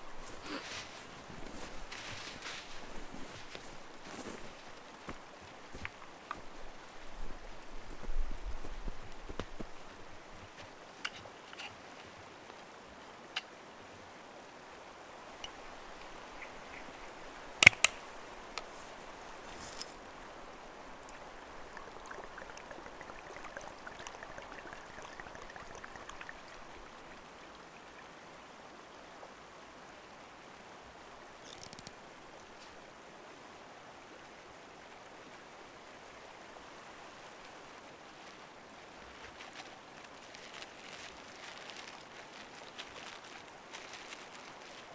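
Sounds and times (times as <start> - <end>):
faint ticks and rustles: 0.0 - 14.1, 14.8 - 28.2, 31.3 - 33.0, 34.8 - 44.9
running water rushing: 0.0 - 44.9.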